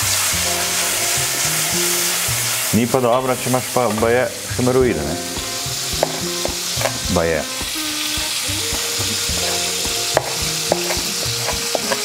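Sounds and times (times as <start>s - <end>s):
bacon sizzling in a pan: 0.0s - 12.0s.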